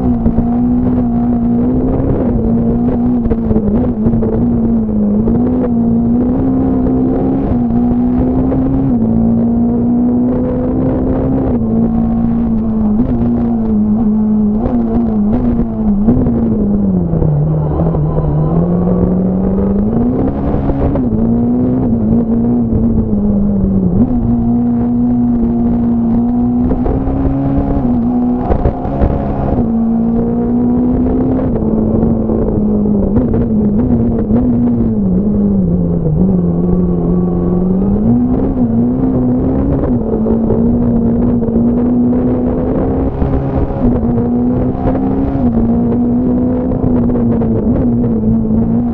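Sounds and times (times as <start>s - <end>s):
rally car engine at high revs: 0.0s - 48.9s.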